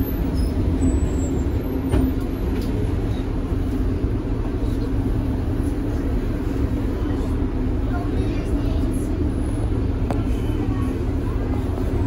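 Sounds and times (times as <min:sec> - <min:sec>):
tram rumble and hum: 0:00.0 - 0:12.0.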